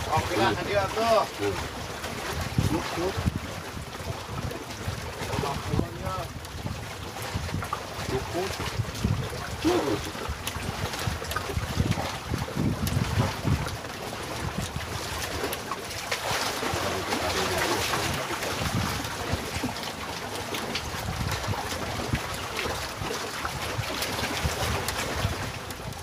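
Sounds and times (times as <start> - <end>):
wind blowing: 0.0 - 15.5, 16.5 - 26.0
water washing against raft: 0.0 - 26.0
wind buffeting microphone: 0.0 - 26.0.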